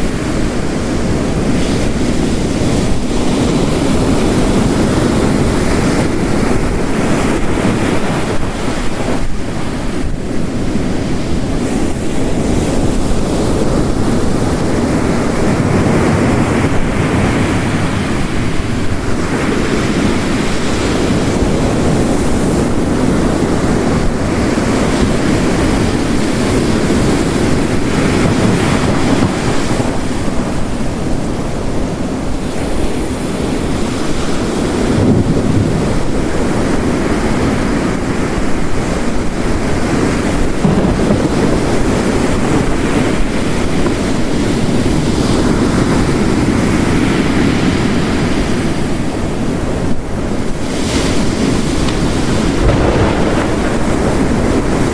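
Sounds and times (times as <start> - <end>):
heavy rain: 0.0 - 54.9
ocean surf crashing: 0.0 - 54.9.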